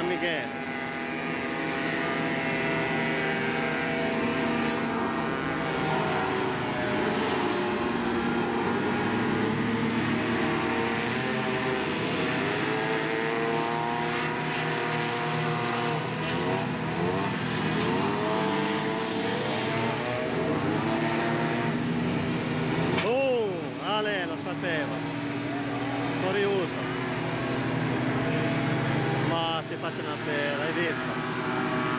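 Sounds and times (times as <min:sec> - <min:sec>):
hovercraft engines buzzing: 0:00.0 - 0:31.9.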